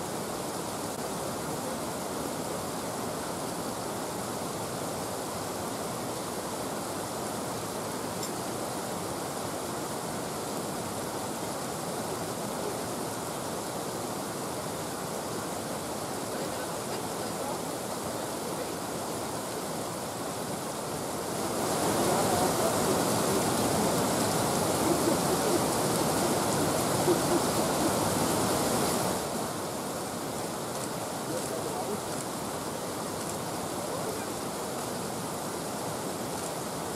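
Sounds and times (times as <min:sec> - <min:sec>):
river water pouring over a weir: 0:00.0 - 0:36.9.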